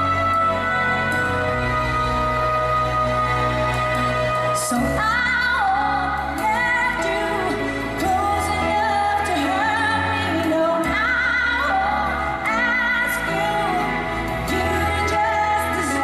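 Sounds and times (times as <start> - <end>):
band backing music: 0.0 - 16.0
woman singing pop ballad: 0.0 - 16.0.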